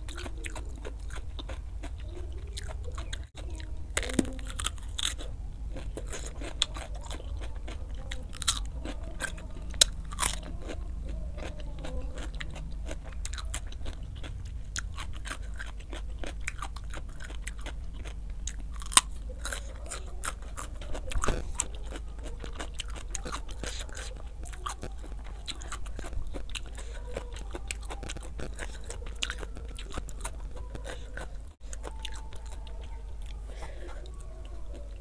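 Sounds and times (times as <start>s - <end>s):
crunching and chewing cucumber: 0.0s - 35.0s
low steady hum: 0.0s - 35.0s.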